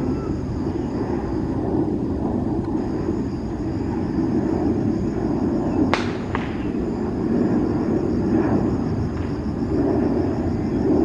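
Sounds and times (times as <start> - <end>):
distant jet engines rumbling: 0.0 - 11.0.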